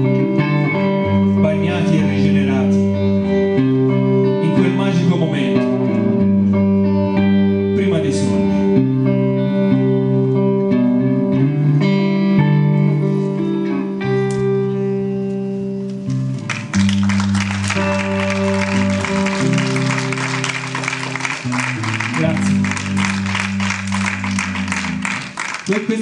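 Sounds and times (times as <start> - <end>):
electric guitar held notes: 0.0 - 25.6.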